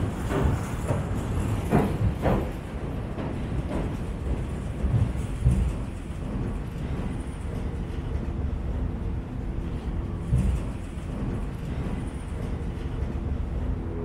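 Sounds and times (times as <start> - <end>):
train rumbling across steel bridge: 0.0 - 14.0.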